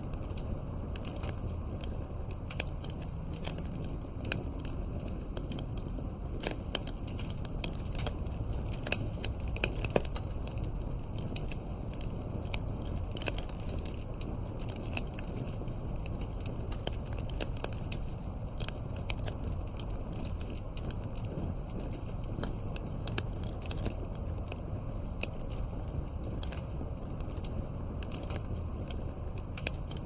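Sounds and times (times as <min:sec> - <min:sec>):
campfire crackling and popping: 0:00.0 - 0:30.0
low rush of flame: 0:00.0 - 0:30.0.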